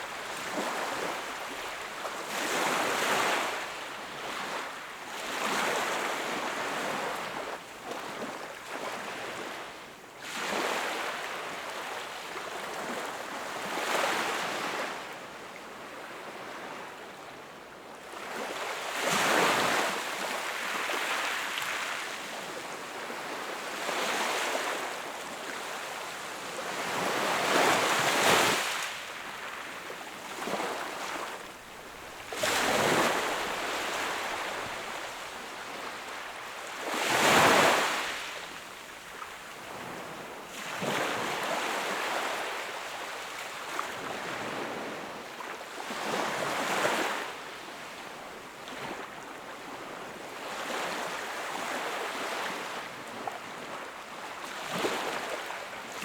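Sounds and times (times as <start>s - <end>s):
small waves breaking on shore: 0.0s - 15.1s, 18.0s - 56.0s.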